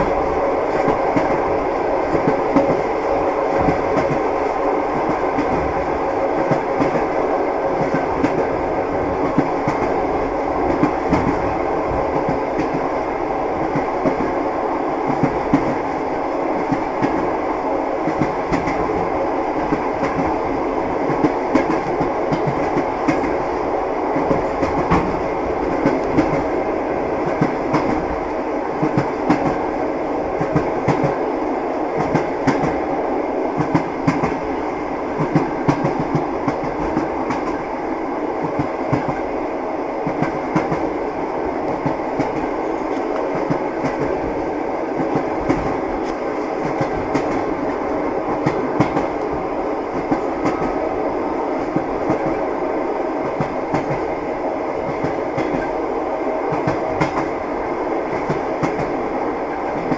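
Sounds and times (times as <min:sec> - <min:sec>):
wheels clacking on rails: 0:00.0 - 0:14.4, 0:18.0 - 0:32.9, 0:33.5 - 0:37.8, 0:38.4 - 0:39.4, 0:40.0 - 0:59.9
train carriage rumbling: 0:00.0 - 0:59.9.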